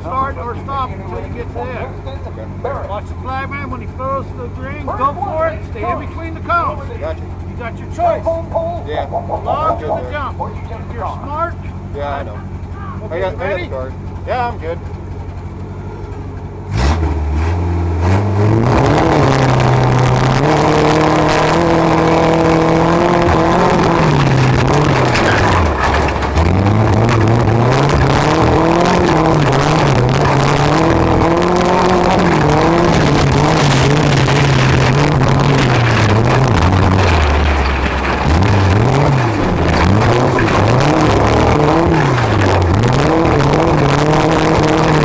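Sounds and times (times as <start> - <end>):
truck engine revving: 0.0 - 45.0.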